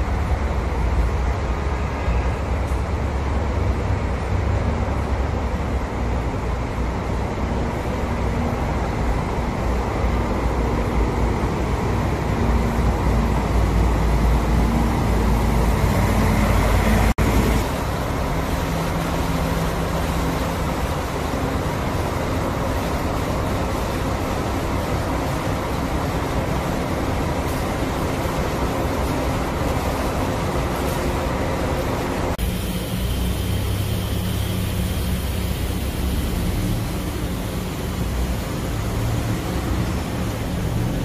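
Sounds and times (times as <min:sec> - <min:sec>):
engine running: 0:00.0 - 0:41.0
heavy bus engine droning: 0:00.0 - 0:41.0
road traffic: 0:00.0 - 0:41.0.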